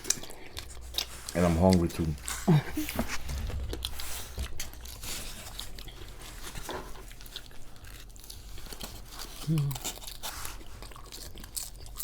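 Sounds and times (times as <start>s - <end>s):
chewing crunchy chips: 0.0s - 12.0s.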